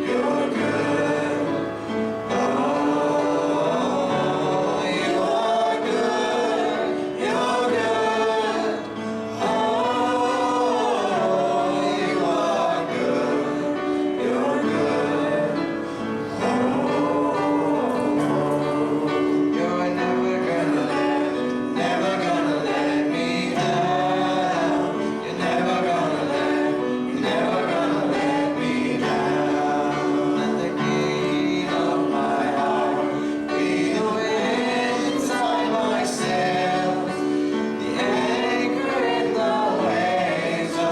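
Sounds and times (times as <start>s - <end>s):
congregation singing a hymn: 0.0s - 40.9s.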